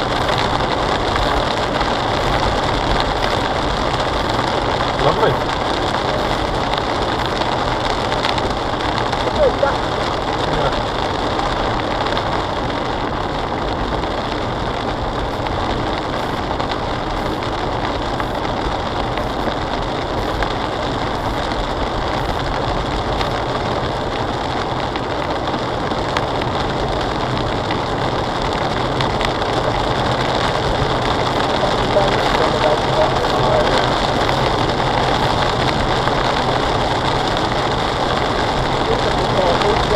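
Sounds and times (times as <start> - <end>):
car engine running: 0.0 - 39.9
rain on car: 0.0 - 39.9
tyres on wet road: 0.0 - 39.9.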